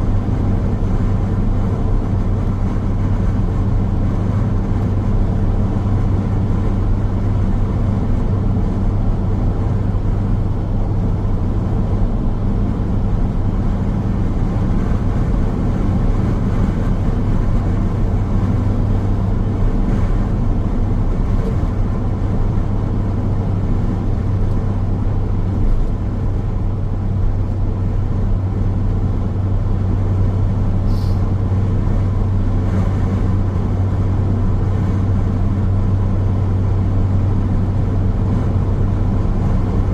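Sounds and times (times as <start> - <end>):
car road noise: 0.0 - 39.9.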